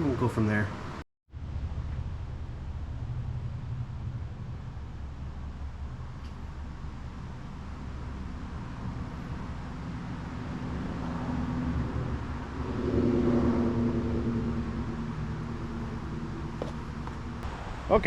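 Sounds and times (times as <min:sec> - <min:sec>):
engine low rumble: 0:00.0 - 0:18.0
pitched engine hum: 0:00.0 - 0:18.0.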